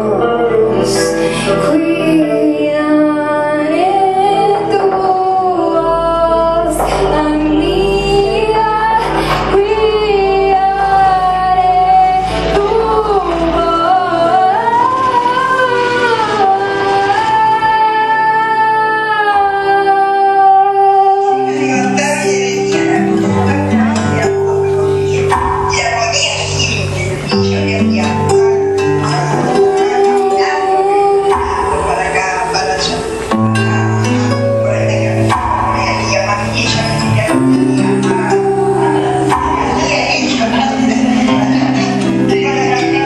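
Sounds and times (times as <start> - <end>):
woman singing: 0.0 - 23.7, 29.0 - 32.5, 35.7 - 43.0
keyboard accompaniment: 0.0 - 43.0
sustained low bass notes: 0.0 - 43.0.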